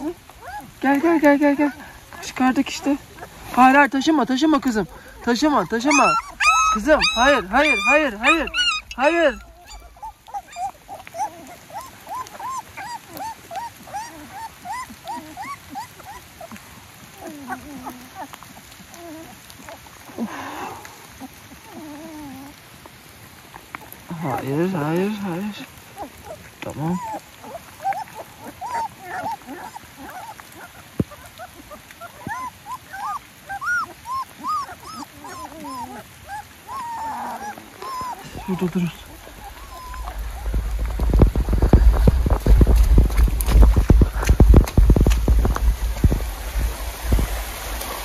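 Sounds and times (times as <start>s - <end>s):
puppies whimpering and crying: 0.0s - 22.6s, 23.8s - 47.9s.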